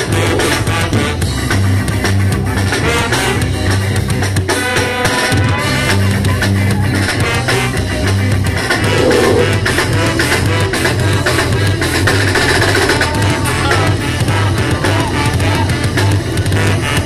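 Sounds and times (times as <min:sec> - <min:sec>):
bass: 0:00.0 - 0:17.0
drum kit: 0:00.0 - 0:17.0
guitar: 0:00.0 - 0:17.0
ska band playing: 0:00.0 - 0:17.0.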